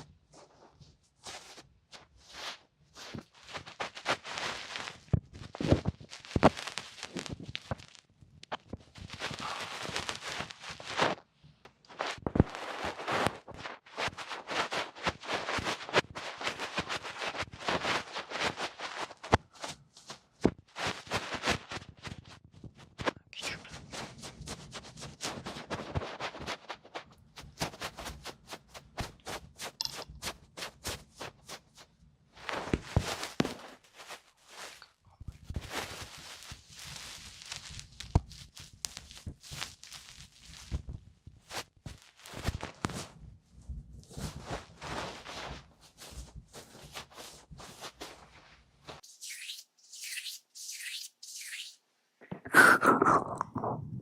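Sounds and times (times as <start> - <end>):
crackly rustling: 0.3 - 49.1.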